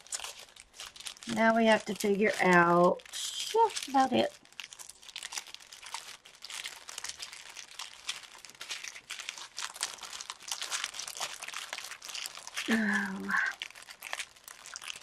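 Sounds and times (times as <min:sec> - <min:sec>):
plastic crinkling: 0:00.0 - 0:15.0.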